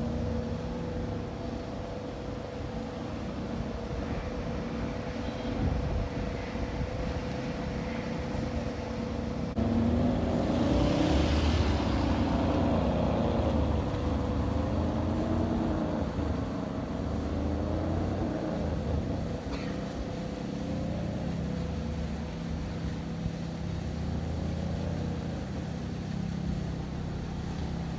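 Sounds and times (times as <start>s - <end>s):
car engine running at low speed: 0.0s - 27.9s.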